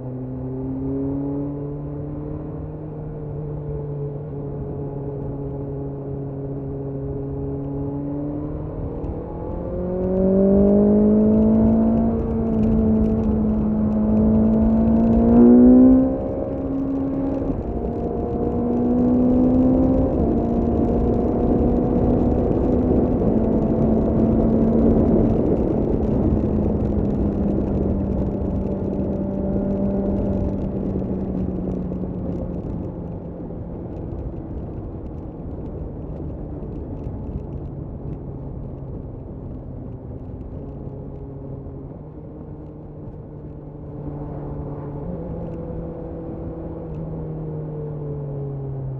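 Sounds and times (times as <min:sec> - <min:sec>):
motorcycle engine accelerating: 0:00.2 - 0:48.9
wind noise: 0:04.3 - 0:48.9.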